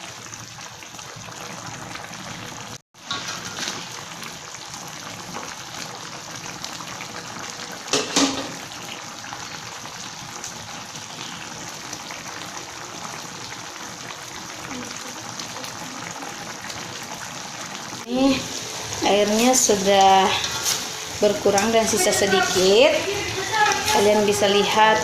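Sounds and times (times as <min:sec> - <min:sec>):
broth bubbling in a pot: 0:00.0 - 0:25.0.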